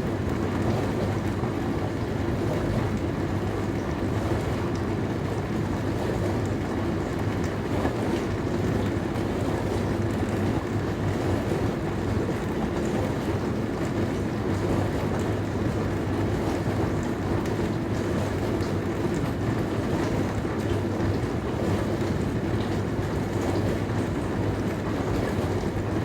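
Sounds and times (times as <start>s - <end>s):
dishwasher pump motor humming: 0.0s - 26.0s
water rushing in dishwasher: 0.0s - 26.0s.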